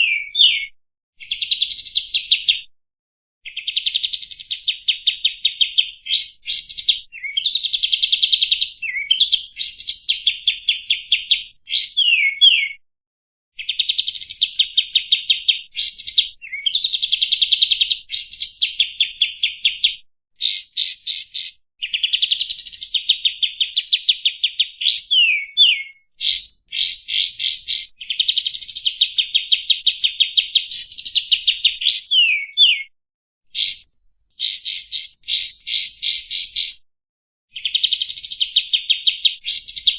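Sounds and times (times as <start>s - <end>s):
bulbul singing trills and whistles: 0.0s - 2.7s, 3.5s - 12.8s, 13.6s - 32.9s, 33.5s - 36.8s, 37.5s - 39.9s.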